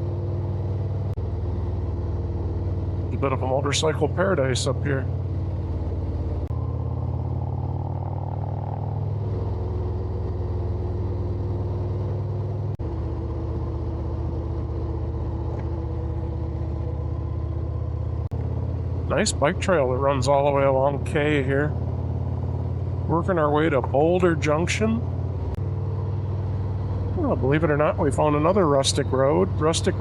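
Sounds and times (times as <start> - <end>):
motorcycle engine cruising: 0.0 - 30.0
wind and road noise: 0.0 - 30.0.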